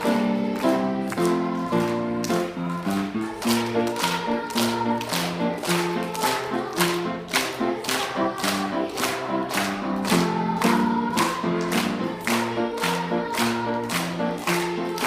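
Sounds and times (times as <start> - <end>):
group singing: 0.0 - 15.0
instrumental accompaniment: 0.0 - 15.0.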